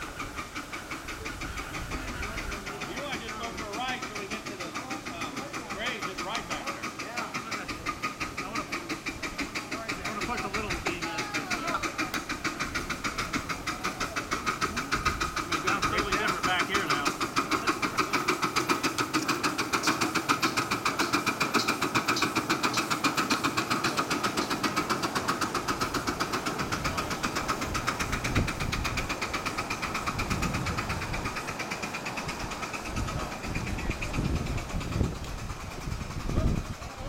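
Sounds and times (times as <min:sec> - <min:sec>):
steam locomotive exhaust chuffing: 0:00.0 - 0:37.0.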